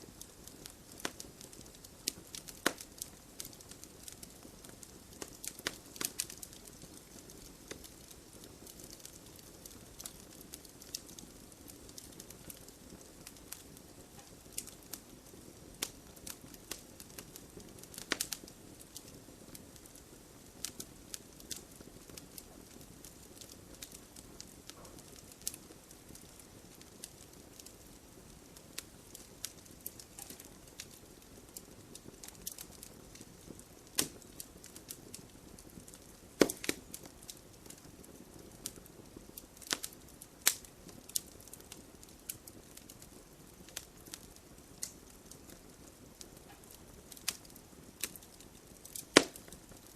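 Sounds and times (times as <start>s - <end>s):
hiss of flame: 0.0s - 49.9s
wood fire crackling: 0.0s - 49.9s.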